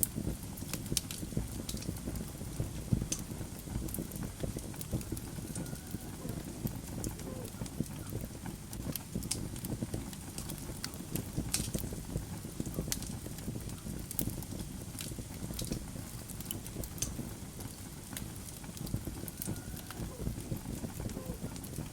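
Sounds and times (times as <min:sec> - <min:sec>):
logs crackling and popping: 0:00.0 - 0:21.9
low rumble of flames: 0:00.0 - 0:21.9.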